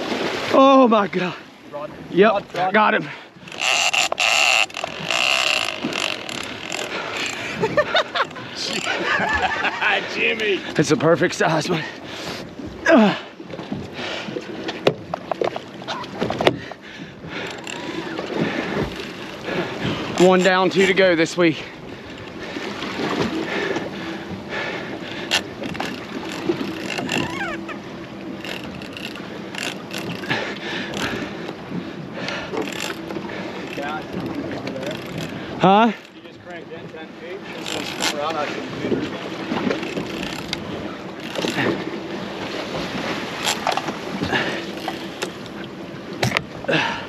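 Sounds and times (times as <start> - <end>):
outboard motors running: 0.0 - 47.0
wind and water rushing: 0.0 - 47.0.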